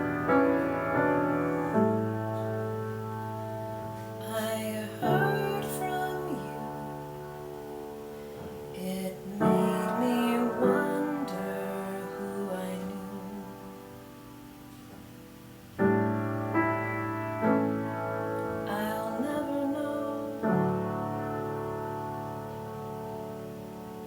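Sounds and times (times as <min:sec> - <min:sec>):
gentle piano chords: 0:00.0 - 0:24.0.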